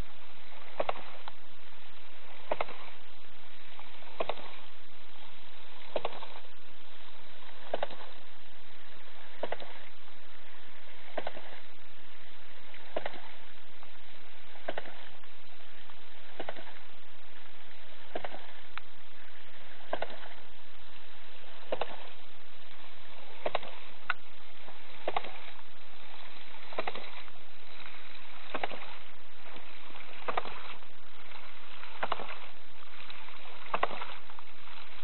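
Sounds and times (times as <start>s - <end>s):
water noise: 0.0s - 35.0s.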